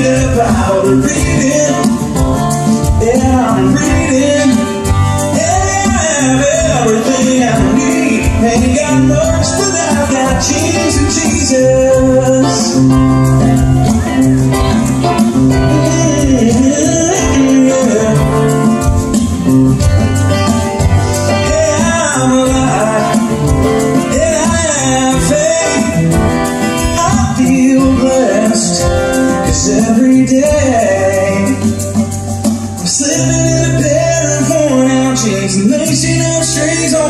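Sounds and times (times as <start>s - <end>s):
acoustic guitars: 0.0s - 37.0s
man singing: 0.0s - 37.0s.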